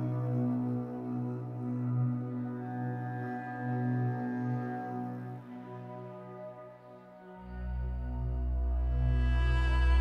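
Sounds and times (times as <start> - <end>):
ambient synth pad music: 0.0 - 10.0.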